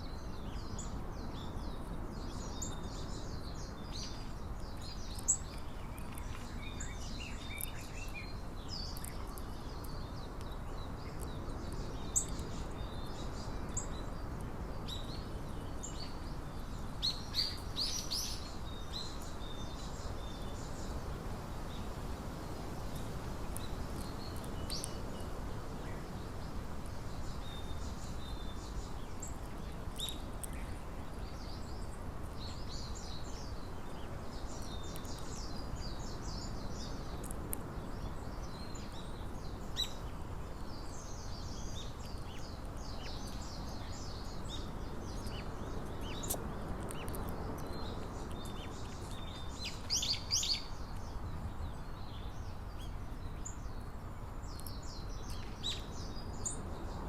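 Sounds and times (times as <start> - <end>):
low outdoor background hum: 0.0 - 57.0
small birds chirping: 0.0 - 57.0.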